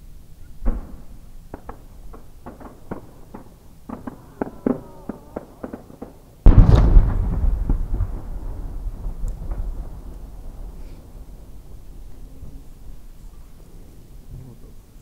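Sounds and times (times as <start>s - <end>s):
firework sharp crack: 0.6s - 12.9s
deep firework boom: 0.6s - 13.1s.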